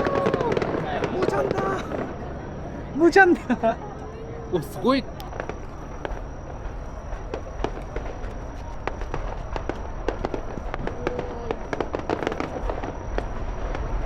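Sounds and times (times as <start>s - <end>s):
fireworks popping and crackling: 0.0s - 3.5s, 4.6s - 14.0s.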